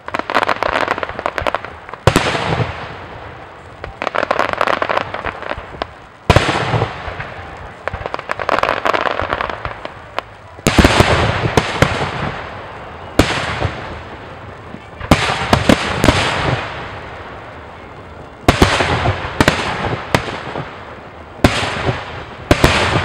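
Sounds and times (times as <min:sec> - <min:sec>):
firework shells booming: 0:00.0 - 0:17.4, 0:18.3 - 0:23.0
firework crackling: 0:00.0 - 0:23.0.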